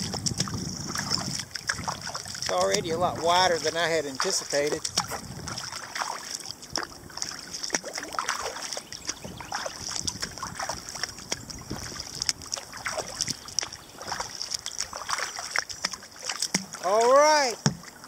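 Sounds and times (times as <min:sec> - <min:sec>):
kayak paddle splashing water: 0:00.0 - 0:18.0.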